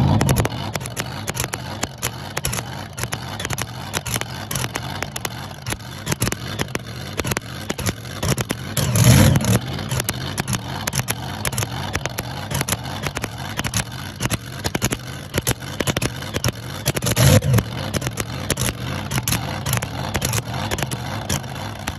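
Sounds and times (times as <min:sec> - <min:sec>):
sharp exhaust pops: 0:00.0 - 0:21.9
tractor engine idling roughly: 0:00.0 - 0:21.9.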